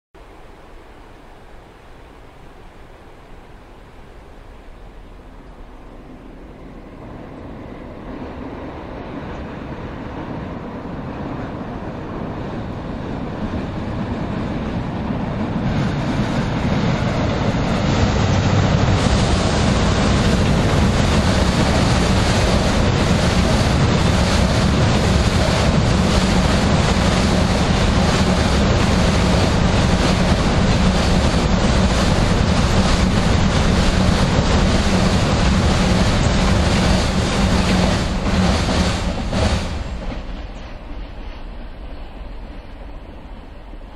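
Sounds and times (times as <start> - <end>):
freight train rumbling over bridge: 0.2 - 43.9.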